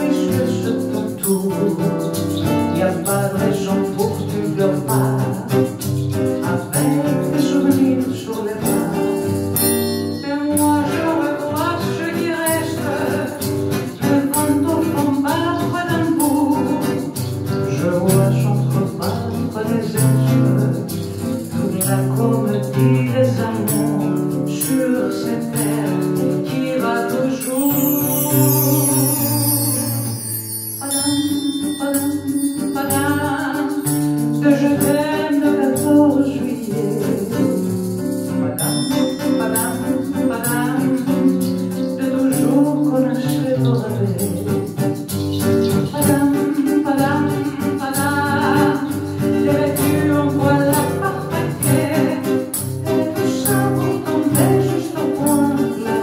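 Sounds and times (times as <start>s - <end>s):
woman singing: 0.0s - 20.9s, 21.5s - 37.8s, 38.7s - 56.0s
strummed acoustic guitar: 0.0s - 56.0s.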